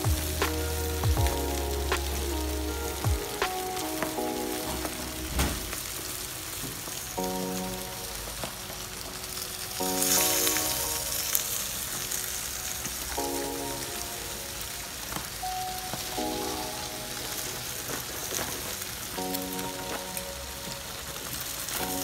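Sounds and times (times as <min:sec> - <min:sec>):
background music: 0:00.0 - 0:22.0
fish sizzling in a pan: 0:00.0 - 0:22.0.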